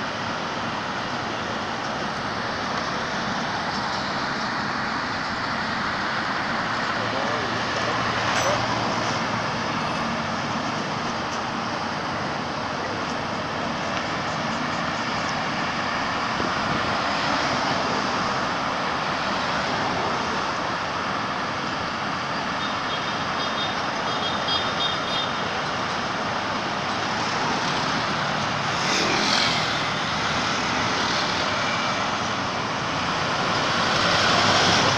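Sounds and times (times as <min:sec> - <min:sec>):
road traffic rushing: 0:00.0 - 0:34.9.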